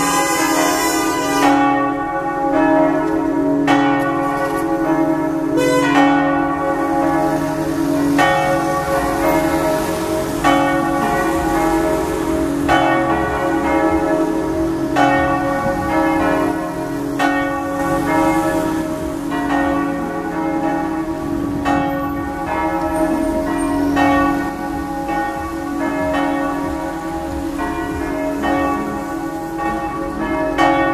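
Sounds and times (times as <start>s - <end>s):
church bells pealing: 0.0s - 30.9s.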